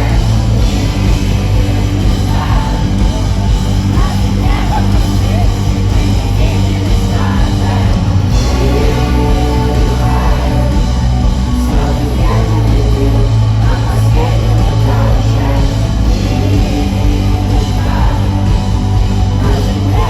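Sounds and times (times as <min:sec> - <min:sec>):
electric guitars: 0:00.0 - 0:20.0
heavy bass: 0:00.0 - 0:20.0
live rock band playing: 0:00.0 - 0:20.0
person singing: 0:00.0 - 0:20.0.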